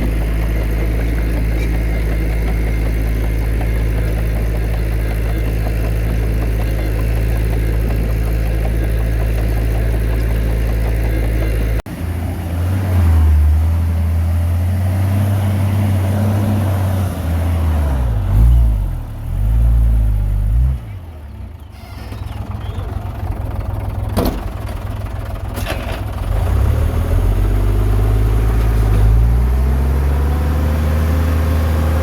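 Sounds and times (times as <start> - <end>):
diesel engine running and revving: 0.0 - 32.0.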